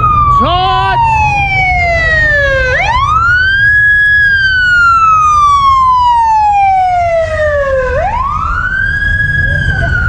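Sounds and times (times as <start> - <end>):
emergency siren wailing: 0.0 - 10.0.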